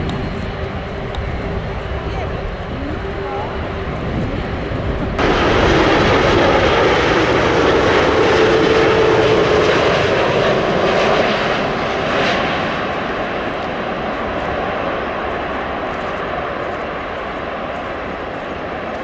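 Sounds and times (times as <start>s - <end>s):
jet airliner landing: 0.0s - 19.0s.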